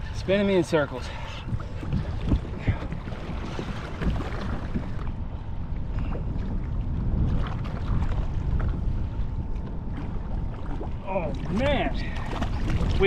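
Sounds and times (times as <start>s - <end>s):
water lapping against kayak: 0.0s - 13.0s
wind on microphone: 0.0s - 13.0s.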